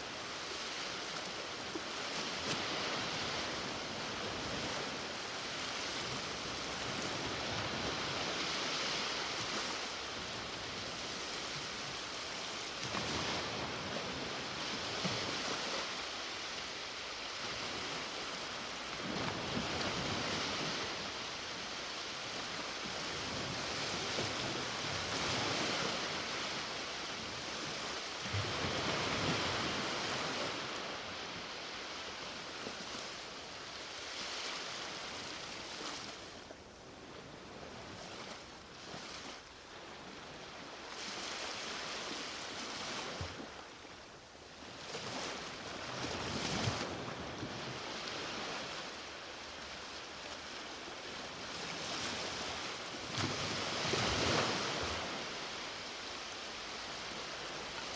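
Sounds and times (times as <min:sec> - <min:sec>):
ocean waves washing onto beach: 0:00.0 - 0:57.9.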